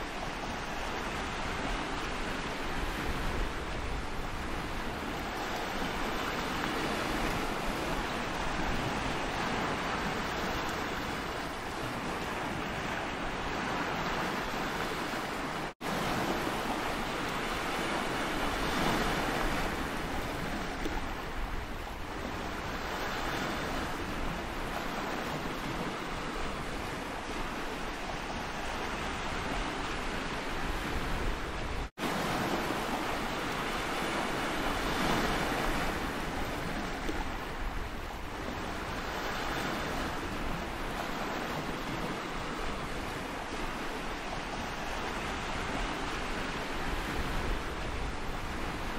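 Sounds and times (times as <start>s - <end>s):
sea waves washing: 0.0s - 48.9s.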